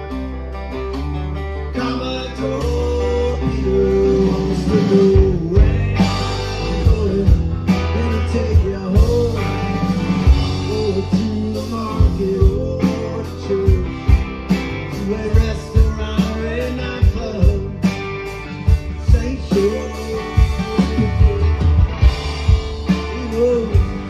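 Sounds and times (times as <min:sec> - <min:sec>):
acoustic guitar: 0:00.0 - 0:24.0
bending lead guitar line: 0:00.0 - 0:24.0
electric bass: 0:00.0 - 0:24.0
steady drum beat: 0:02.6 - 0:24.0.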